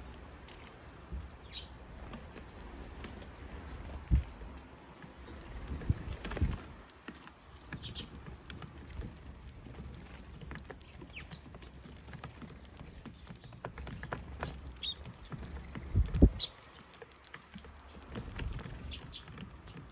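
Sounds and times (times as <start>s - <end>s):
birds pecking at feed: 0.0s - 19.9s.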